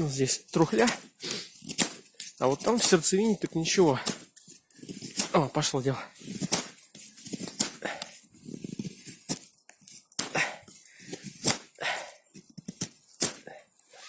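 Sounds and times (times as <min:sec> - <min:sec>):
knife scraping wood: 0:00.2 - 0:14.0.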